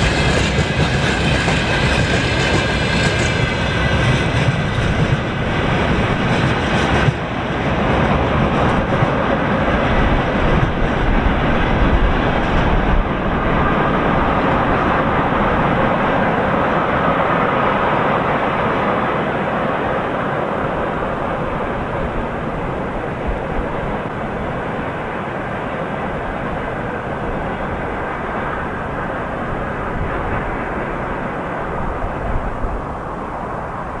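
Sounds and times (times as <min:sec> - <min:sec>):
freight train rumbling on rails: 0:00.0 - 0:34.0.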